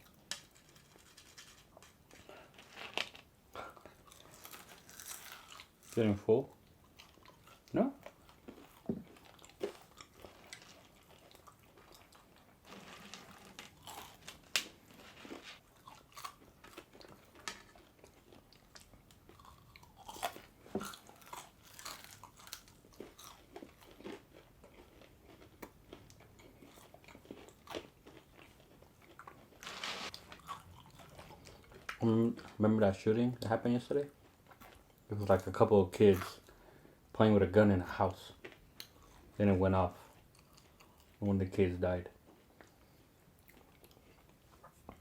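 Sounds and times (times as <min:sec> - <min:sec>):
people chewing crunchy food: 0:00.0 - 0:32.6, 0:34.1 - 0:37.1, 0:38.3 - 0:39.4, 0:40.0 - 0:41.2, 0:42.2 - 0:45.0.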